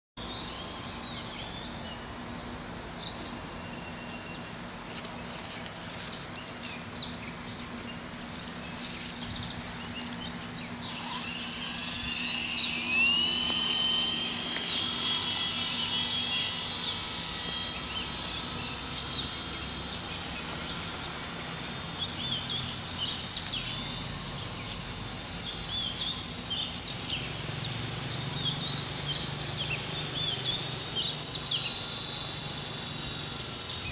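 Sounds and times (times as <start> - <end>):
birds chirping: 0.2 - 33.9
rc helicopter motor whine: 0.2 - 33.9.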